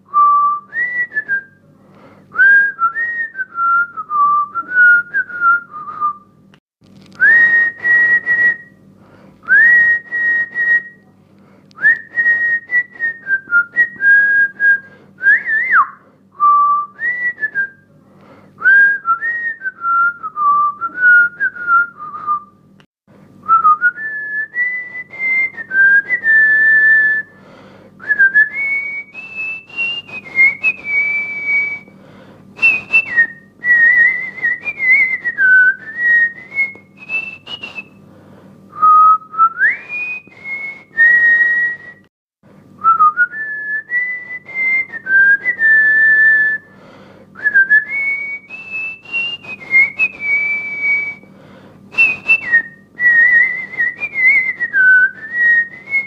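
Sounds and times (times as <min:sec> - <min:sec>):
person whistling a tune: 0:00.1 - 0:01.6, 0:02.3 - 0:06.3, 0:07.2 - 0:08.8, 0:09.4 - 0:11.1, 0:11.8 - 0:17.8, 0:18.6 - 0:22.6, 0:23.4 - 0:27.3, 0:28.0 - 0:31.9, 0:32.6 - 0:38.0, 0:38.7 - 0:42.1, 0:42.8 - 0:46.7, 0:47.4 - 0:51.3, 0:51.9 - 0:56.0.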